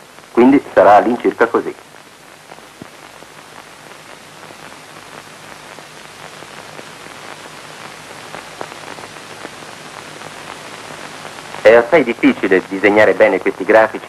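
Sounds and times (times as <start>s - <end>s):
crackles and clicks: 0.0s - 14.0s
film soundtrack hiss: 0.0s - 14.0s.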